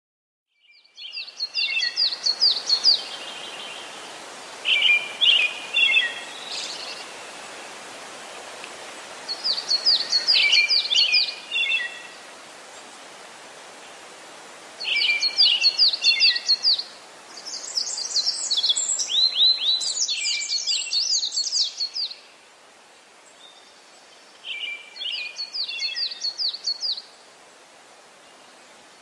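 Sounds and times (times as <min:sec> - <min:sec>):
songbirds chirping: 0:00.5 - 0:29.0
steady outdoor hiss: 0:00.6 - 0:29.0.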